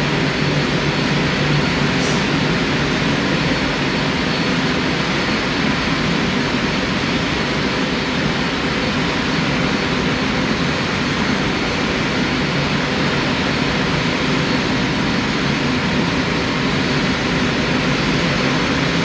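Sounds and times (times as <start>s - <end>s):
jet engines taxiing: 0.0s - 19.0s.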